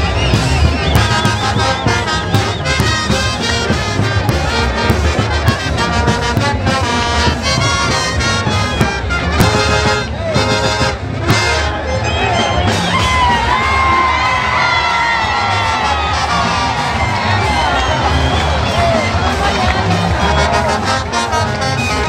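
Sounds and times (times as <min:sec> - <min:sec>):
steady drum beat: 0:00.0 - 0:11.8, 0:12.4 - 0:22.0
brass band playing: 0:00.0 - 0:22.0.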